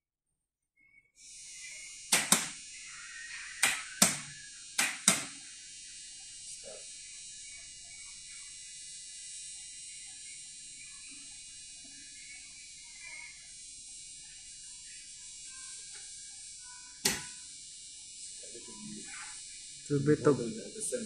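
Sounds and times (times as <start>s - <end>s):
high-pitched hiss: 1.0s - 21.0s.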